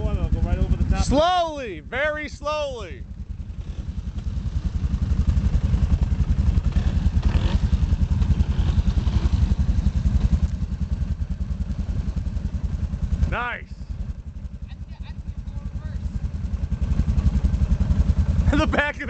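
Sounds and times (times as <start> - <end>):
atv engine pulsing at low revs: 0.0 - 19.0.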